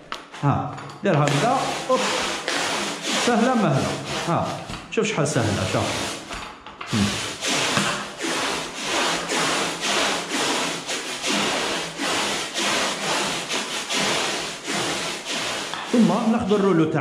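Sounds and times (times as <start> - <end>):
tape rasping against paint roller: 0.0 - 17.0.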